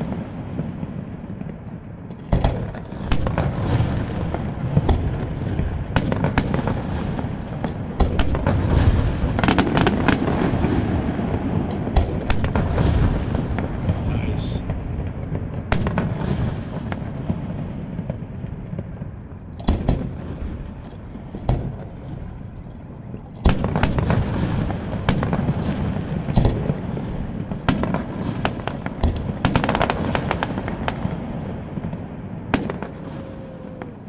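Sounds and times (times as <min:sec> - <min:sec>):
fireworks booming: 0:00.0 - 0:34.0
fireworks crackling: 0:00.0 - 0:34.0.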